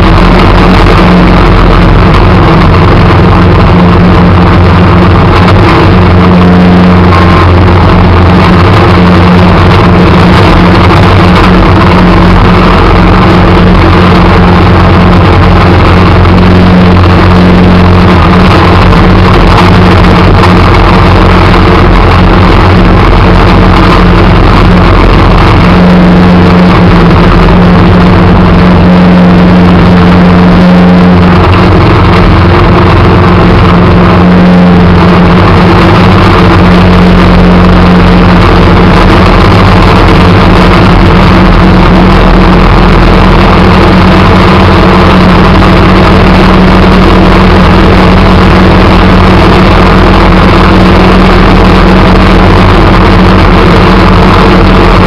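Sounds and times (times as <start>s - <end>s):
snow plow engine running: 0.0s - 55.0s.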